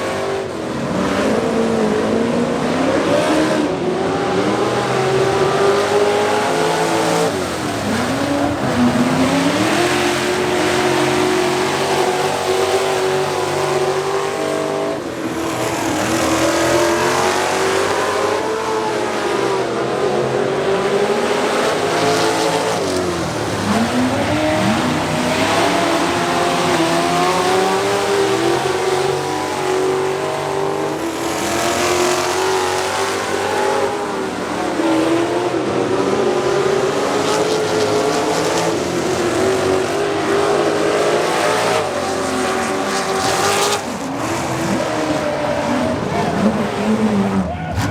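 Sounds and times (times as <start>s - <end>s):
race truck engines running hard: 0.0s - 47.9s.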